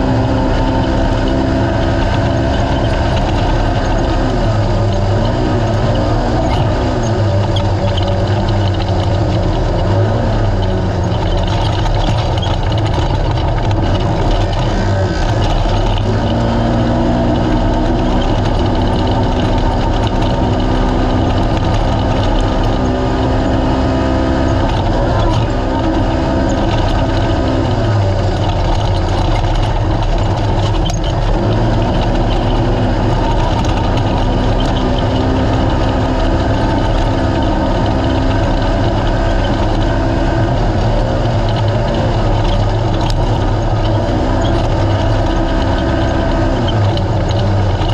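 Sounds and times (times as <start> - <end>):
off-road vehicle engine revving: 0.0 - 47.9.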